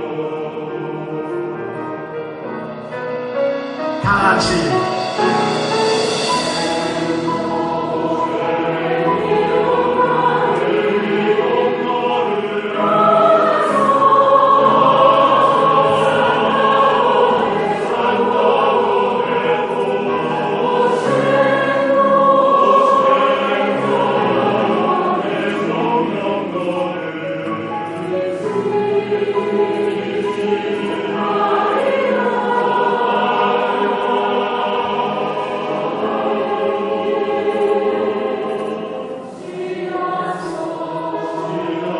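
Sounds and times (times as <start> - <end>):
mixed choir singing: 0.0 - 41.9.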